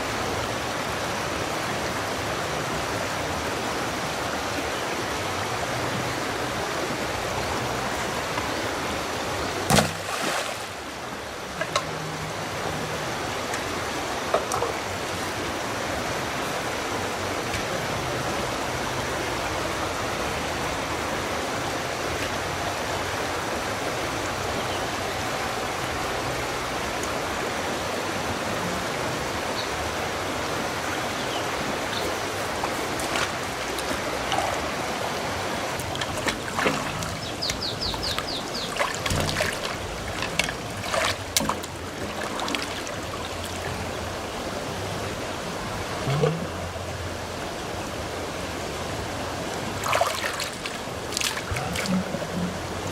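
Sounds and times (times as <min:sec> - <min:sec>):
flowing water rushing: 0:00.0 - 0:52.9.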